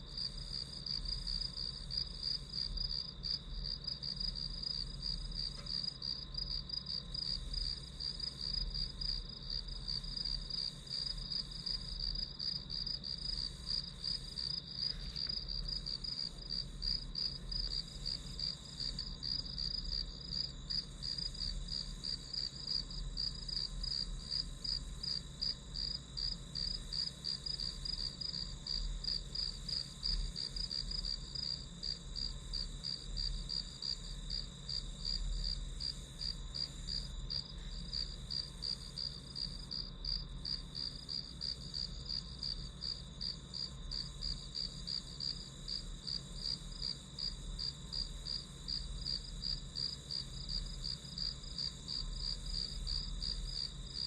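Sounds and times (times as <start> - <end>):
crickets chirping: 0.1 - 54.0.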